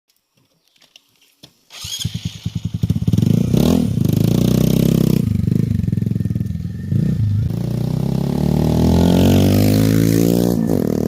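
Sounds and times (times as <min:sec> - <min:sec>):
motorcycle engine starting and revving: 0:01.7 - 0:11.0.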